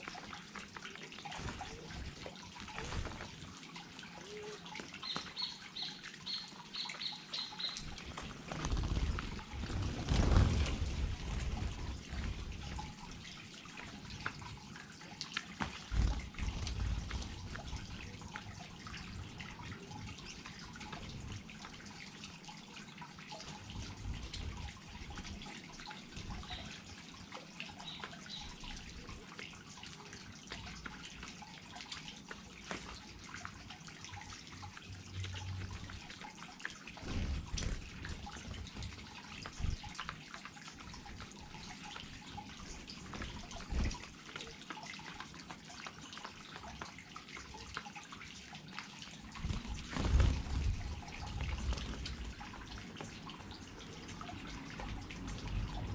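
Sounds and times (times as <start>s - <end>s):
small waterfall trickling and splashing: 0.0s - 55.9s
water dripping: 0.0s - 55.9s.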